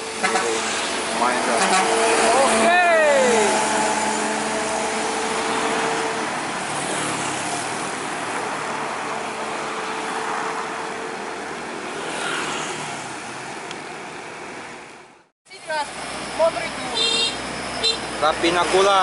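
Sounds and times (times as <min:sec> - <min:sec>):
bus engine and tyres: 0:00.0 - 0:19.0
motorcycles on the move: 0:00.0 - 0:19.0.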